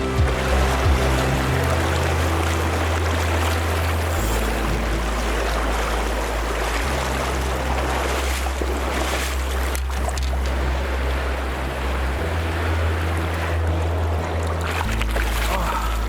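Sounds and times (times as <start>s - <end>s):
low held music notes: 0.0s - 16.0s
rushing river water: 0.0s - 16.0s.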